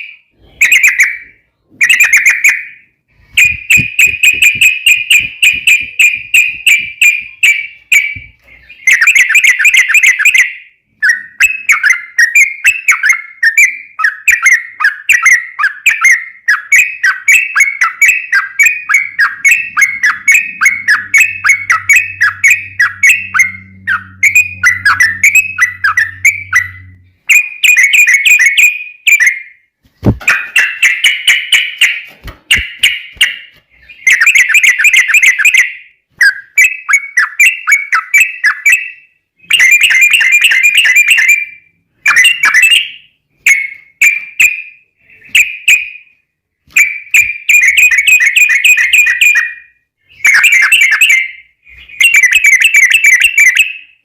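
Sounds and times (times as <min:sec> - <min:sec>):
bird singing rolling chatter: 0:00.0 - 0:29.7, 0:30.3 - 0:46.1.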